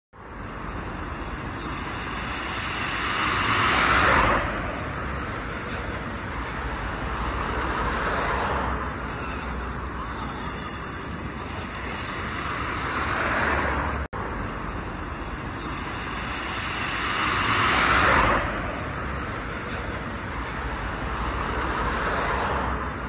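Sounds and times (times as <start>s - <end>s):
vehicles passing on city road: 0.1s - 23.0s.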